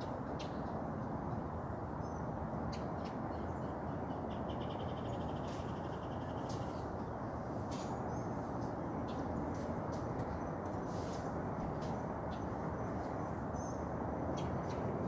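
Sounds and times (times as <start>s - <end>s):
low background hum: 0.0s - 15.0s
small birds chirping: 1.9s - 15.0s.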